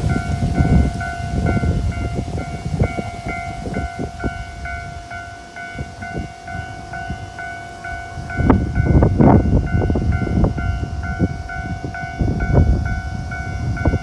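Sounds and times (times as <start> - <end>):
level-crossing warning bell: 0.0 - 14.0.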